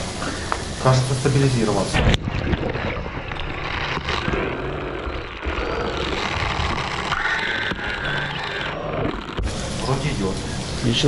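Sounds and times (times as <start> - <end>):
electric thrusters whirring underwater: 1.9 - 10.8.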